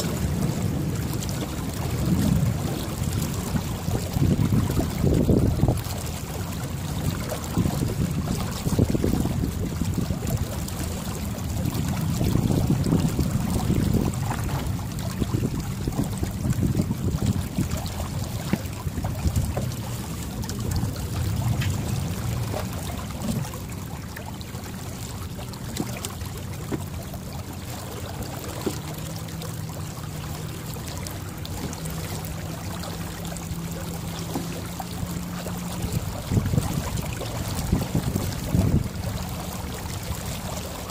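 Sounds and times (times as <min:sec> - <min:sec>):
water trickling along hull: 0:00.0 - 0:40.9
wind buffeting microphone: 0:00.0 - 0:40.9.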